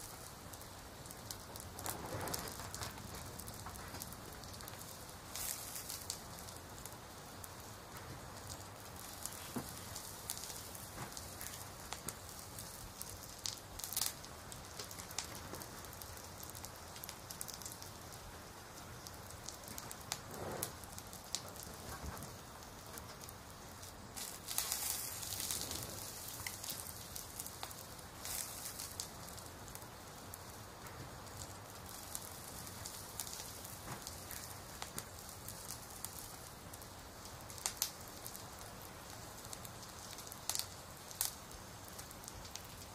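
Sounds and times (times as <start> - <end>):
fire crackling and popping: 0.0 - 42.9
soft fire hiss: 0.0 - 42.9.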